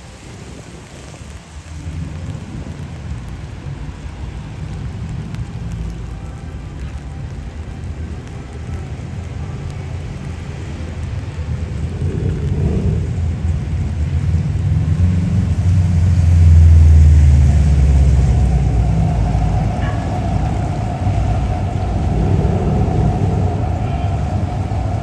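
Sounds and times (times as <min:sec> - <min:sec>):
motor vehicle rumble: 0:00.0 - 0:25.0
rain hissing: 0:00.0 - 0:25.0.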